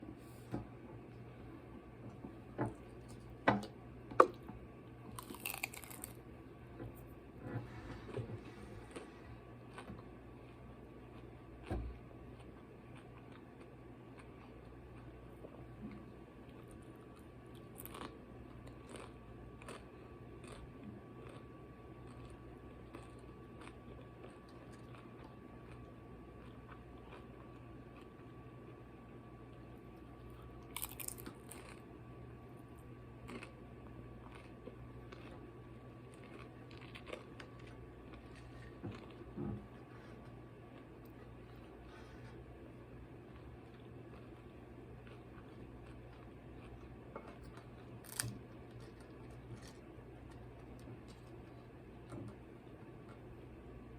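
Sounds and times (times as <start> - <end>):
steady low hum: 0.0 - 53.9
chewing and crunching food: 2.0 - 53.9.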